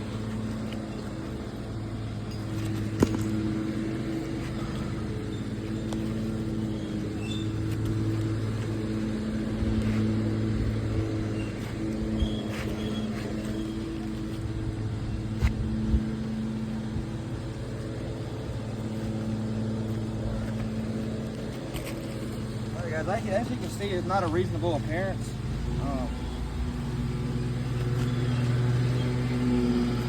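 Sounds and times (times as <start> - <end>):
steady motor hum: 0.0 - 30.0.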